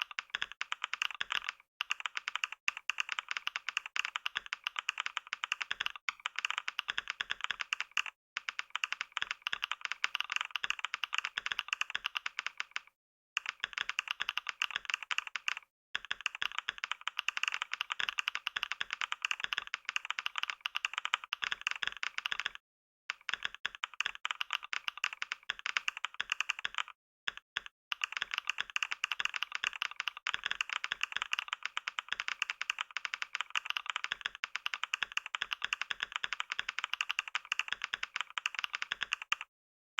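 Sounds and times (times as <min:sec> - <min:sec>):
fast keyboard typing: 0:00.0 - 0:39.5.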